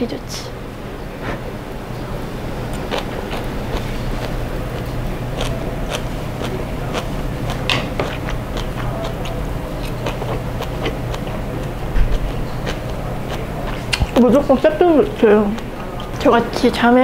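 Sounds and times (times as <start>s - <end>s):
low hum: 0.0s - 16.6s
chewing and biting food: 2.6s - 16.8s.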